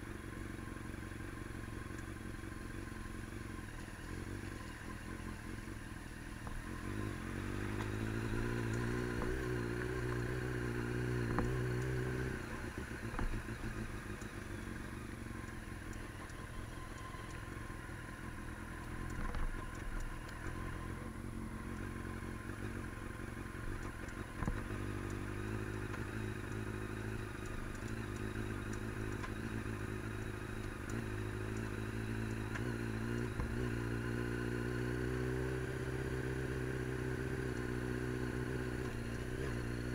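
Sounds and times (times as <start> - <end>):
vehicle engine accelerating: 1.4 - 39.9.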